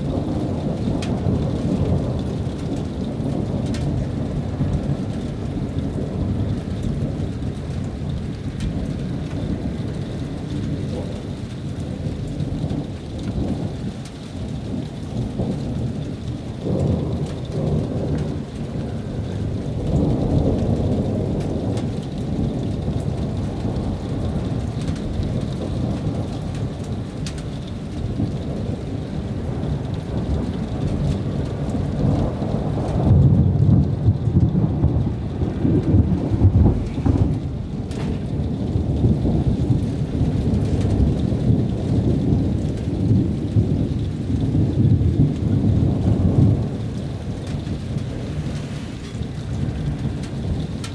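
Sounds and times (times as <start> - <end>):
rain falling: 0.0 - 50.9
thunder rumbling: 0.0 - 50.9.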